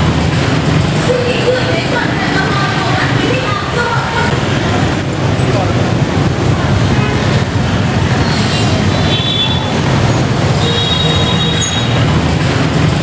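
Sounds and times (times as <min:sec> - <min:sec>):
train carriages rumbling: 0:00.0 - 0:13.0
wheels squealing on rails: 0:00.0 - 0:13.0.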